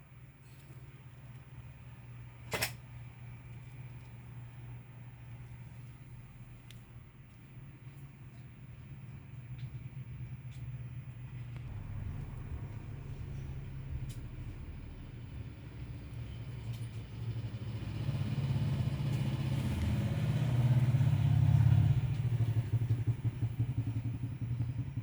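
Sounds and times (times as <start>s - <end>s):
vehicle engine pulsing hum: 0.0s - 25.0s.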